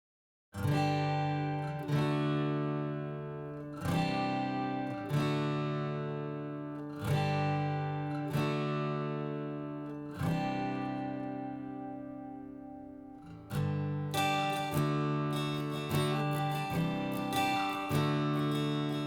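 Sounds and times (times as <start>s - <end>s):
strummed acoustic guitar chords: 0.6s - 19.0s.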